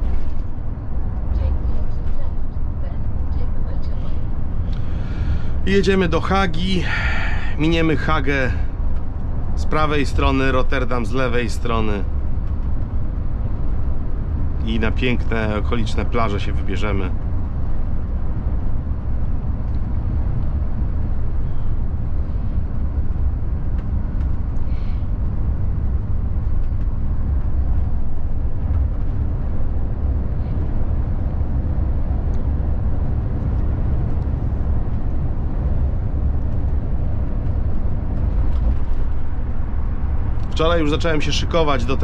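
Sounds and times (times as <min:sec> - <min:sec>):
coach engine rumble: 0:00.0 - 0:42.0
road noise: 0:00.0 - 0:42.0.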